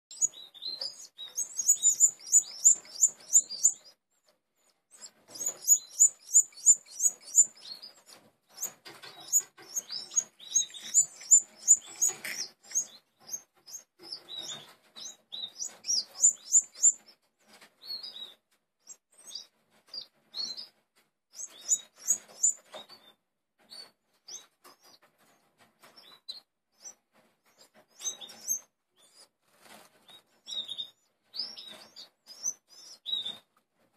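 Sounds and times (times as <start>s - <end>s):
nestling birds chirping: 0.1s - 33.5s.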